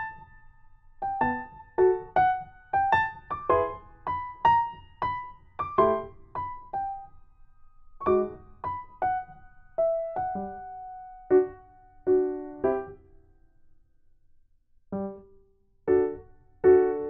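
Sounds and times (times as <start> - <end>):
light piano melody: 0.0 - 13.3, 14.9 - 17.0.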